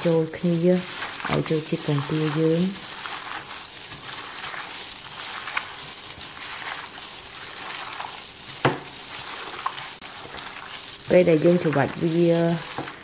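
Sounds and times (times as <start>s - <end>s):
wet squelching of kneaded mushrooms: 0.0s - 13.0s.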